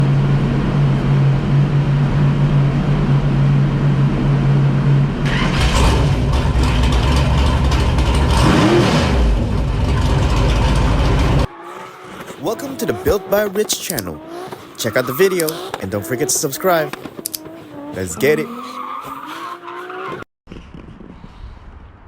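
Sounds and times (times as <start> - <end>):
engine revving: 0.0 - 20.3.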